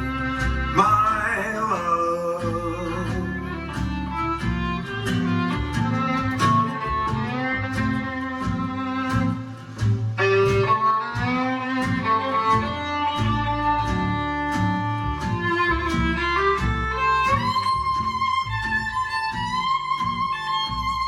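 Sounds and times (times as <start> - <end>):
plucked accompaniment with beat: 0.0 - 21.0
sustained string melody: 0.0 - 21.0.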